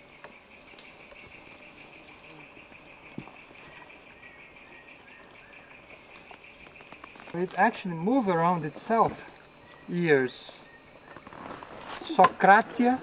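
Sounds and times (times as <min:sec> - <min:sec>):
high-pitched insect buzz: 0:00.0 - 0:13.0
pulsing insect trill: 0:00.0 - 0:13.0.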